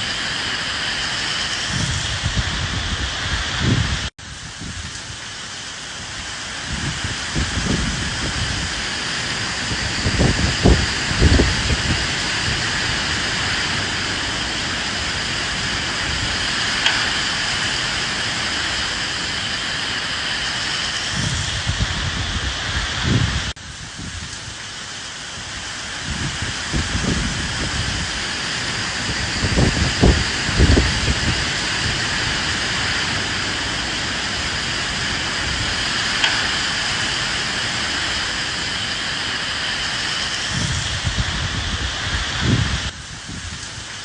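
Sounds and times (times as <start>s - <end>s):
steady rain: 0.0s - 44.0s
wind gusts: 0.0s - 44.0s.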